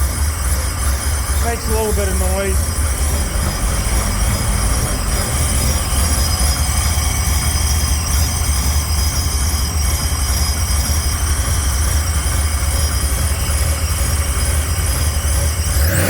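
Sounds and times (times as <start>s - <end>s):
machine low rumble: 0.0s - 16.0s
high-pitched whines: 0.4s - 16.0s.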